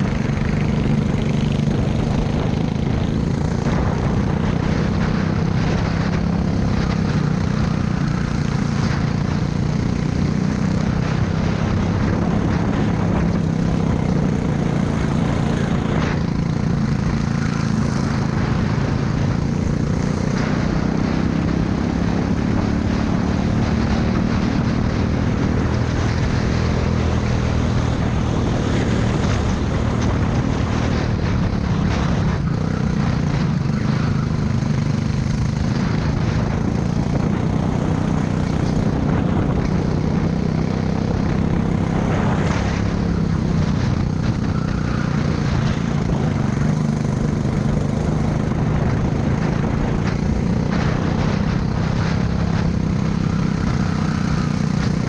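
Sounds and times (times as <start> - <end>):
kart engine droning: 0.0 - 55.0
rushing noise: 0.0 - 55.0.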